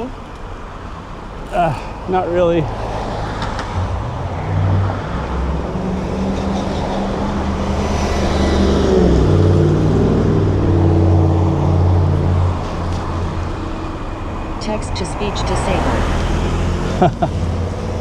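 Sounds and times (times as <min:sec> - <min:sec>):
vehicle engines running nearby: 0:00.0 - 0:18.0.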